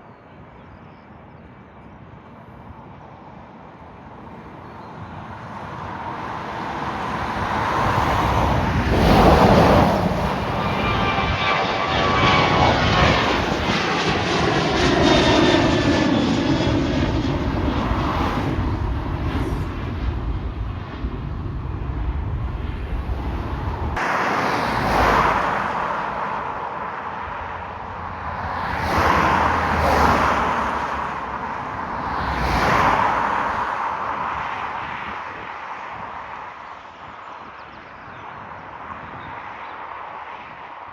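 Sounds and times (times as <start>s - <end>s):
aircraft engines passing: 0.0s - 40.9s.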